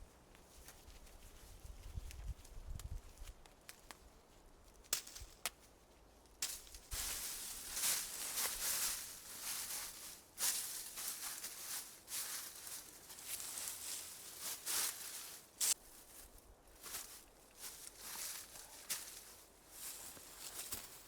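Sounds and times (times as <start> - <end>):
dry leaves and twigs crackling: 0.0 - 21.0.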